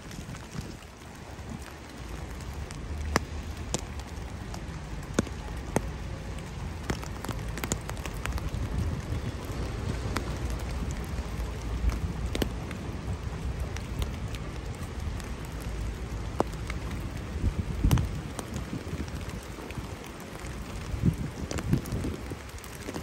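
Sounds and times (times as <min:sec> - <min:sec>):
rain and sleet patter: 0:00.0 - 0:23.0.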